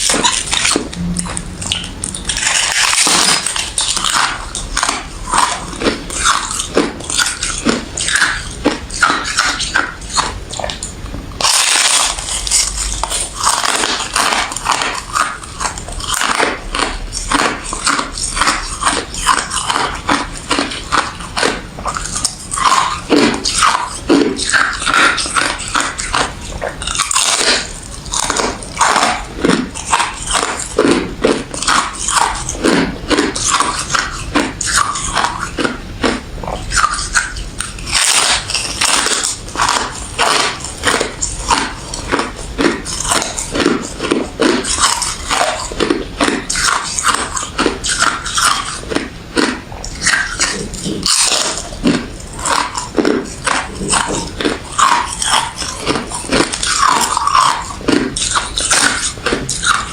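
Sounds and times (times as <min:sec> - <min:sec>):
ice being crunched and chewed: 0:00.0 - 0:59.9.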